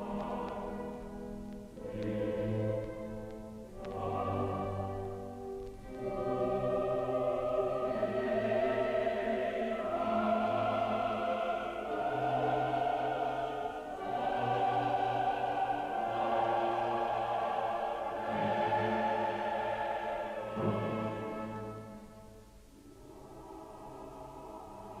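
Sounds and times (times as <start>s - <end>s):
choir holding long chords: 0.0s - 25.0s.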